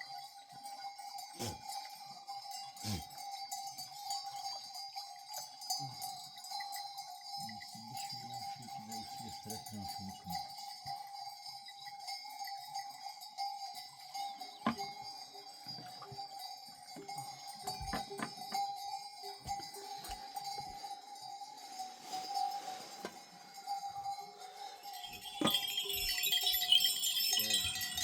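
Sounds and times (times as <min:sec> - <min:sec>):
animal bells clanking: 0:00.0 - 0:28.0.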